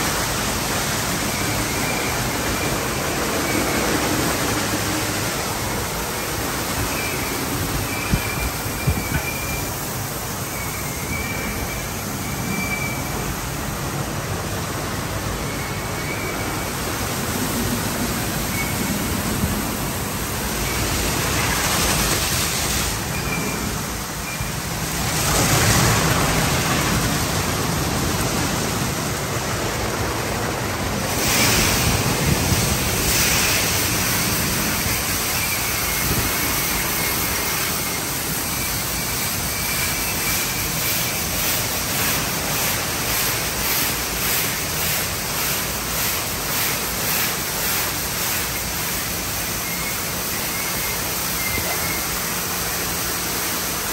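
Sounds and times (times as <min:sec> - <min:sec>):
water spraying onto car: 0:00.0 - 0:53.9.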